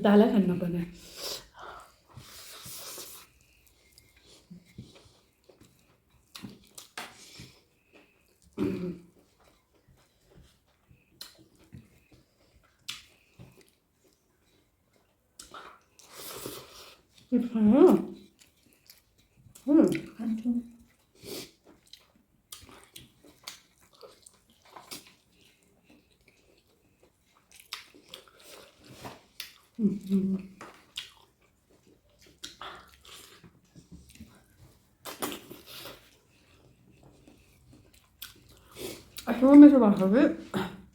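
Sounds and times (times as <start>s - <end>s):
mouth clicks and smacks from chewing: 2.7s - 16.2s, 18.2s - 39.3s.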